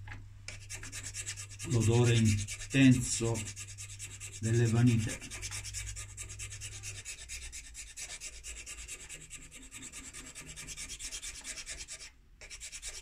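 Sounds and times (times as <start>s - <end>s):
hand file rasping: 0.5s - 13.0s.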